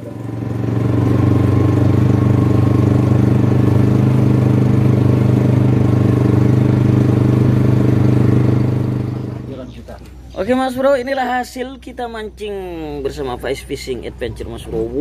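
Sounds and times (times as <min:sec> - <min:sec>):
boat engine droning: 0:00.0 - 0:10.8, 0:12.0 - 0:15.0.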